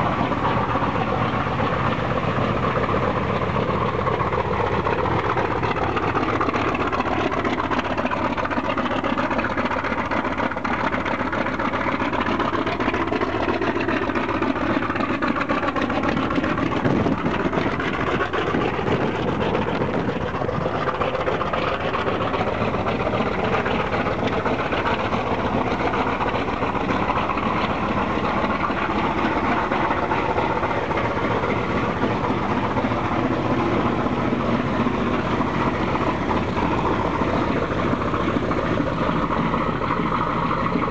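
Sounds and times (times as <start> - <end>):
radial piston engine idling: 0.0 - 40.9.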